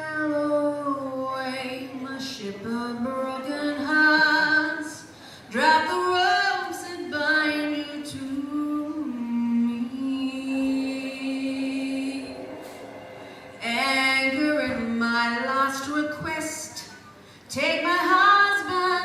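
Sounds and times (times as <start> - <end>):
woman singing long notes: 0.0 - 16.7.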